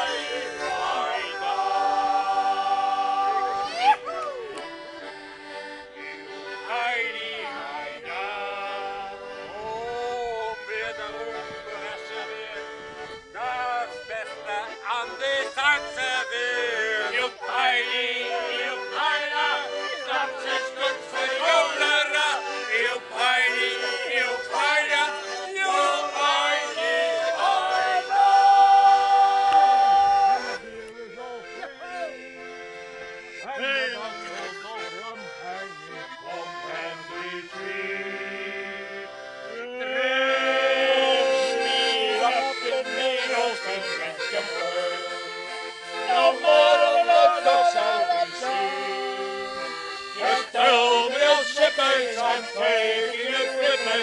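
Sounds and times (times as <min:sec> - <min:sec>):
men singing: 0:00.0 - 0:03.8, 0:06.6 - 0:30.9, 0:33.4 - 0:54.0
accordion playing sea shanty: 0:00.0 - 0:54.0.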